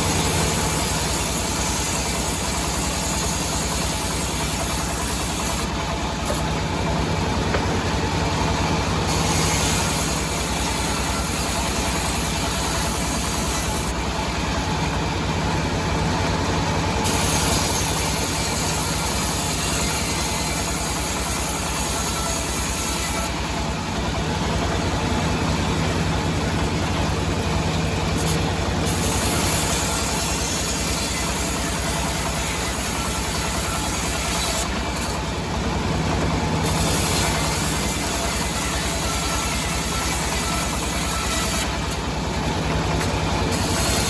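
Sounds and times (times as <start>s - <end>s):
sawmill engine pulsing: 0.0s - 44.0s.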